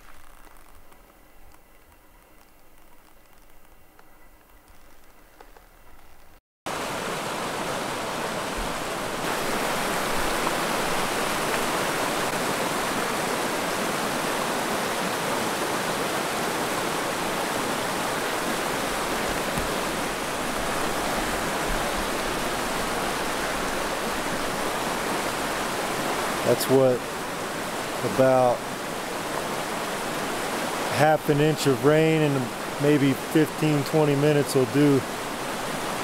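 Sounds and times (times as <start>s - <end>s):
water rushing down a creek: 6.7s - 36.0s.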